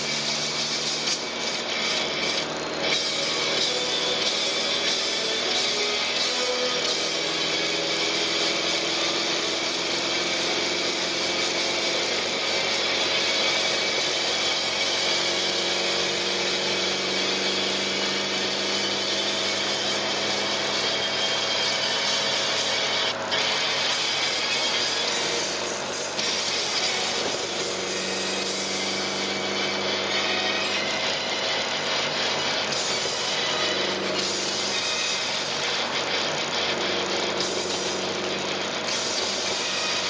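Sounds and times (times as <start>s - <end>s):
car engine cruising: 0.0s - 40.0s
road and wind noise: 0.0s - 40.0s.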